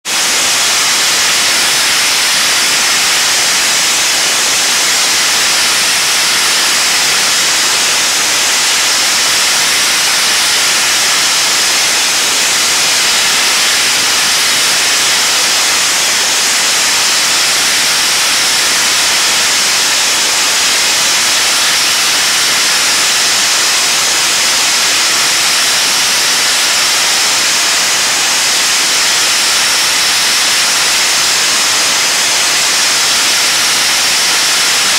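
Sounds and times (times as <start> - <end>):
media blaster hissing: 0.0 - 34.9.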